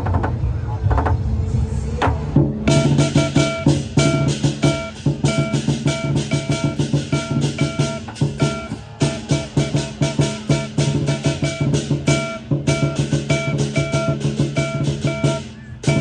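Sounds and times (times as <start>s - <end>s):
music with fast drum beat: 2.4s - 16.0s.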